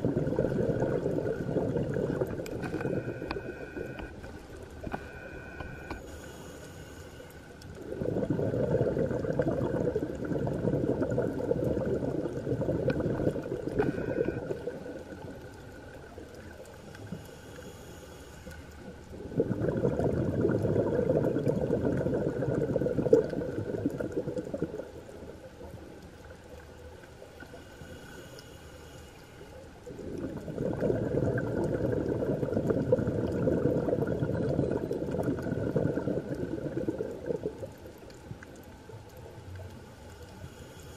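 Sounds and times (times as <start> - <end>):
underwater regulator bubbling: 0.0 - 6.6, 7.6 - 17.3, 18.4 - 25.9, 29.8 - 40.5.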